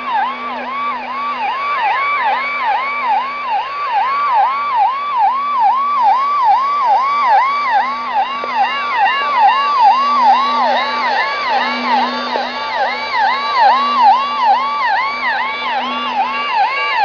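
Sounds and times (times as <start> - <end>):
warbling alarm tone on radio: 0.0 - 17.0.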